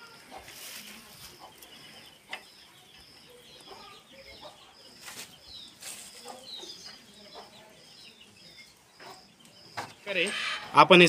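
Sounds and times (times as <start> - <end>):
bird chirping: 0.0 - 11.0
hens clucking: 0.0 - 11.0.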